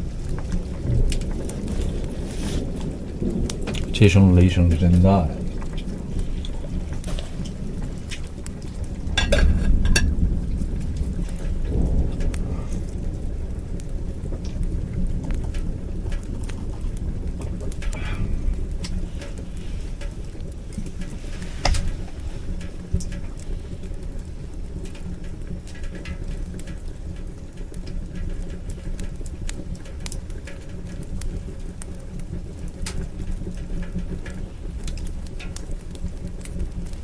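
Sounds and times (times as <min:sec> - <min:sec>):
heavy rain on metal roof: 0:00.0 - 0:37.0
raindrop ticks: 0:00.0 - 0:37.0.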